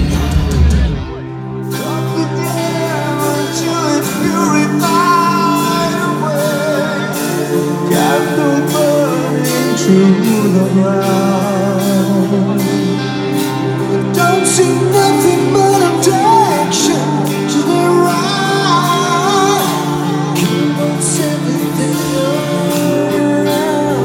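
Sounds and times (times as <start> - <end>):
metal band playing live: 0.0 - 24.0
person singing: 0.0 - 24.0.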